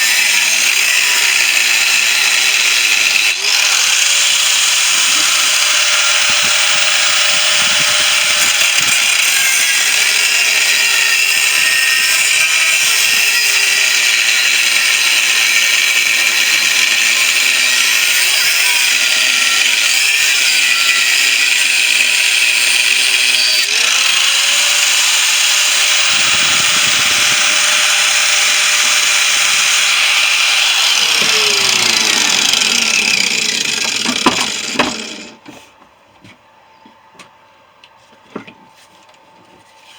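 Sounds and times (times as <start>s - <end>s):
angle grinder cutting steel: 0.0s - 35.4s.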